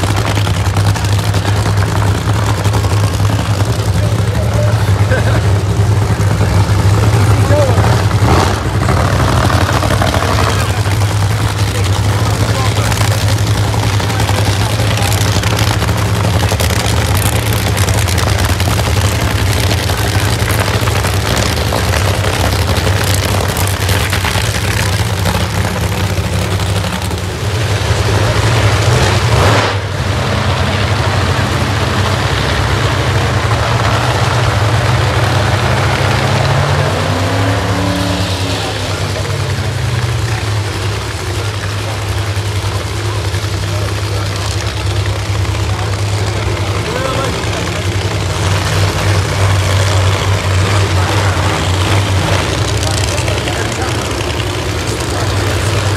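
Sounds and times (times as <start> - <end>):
drag-racing engine idling loudly: 0.0 - 55.9.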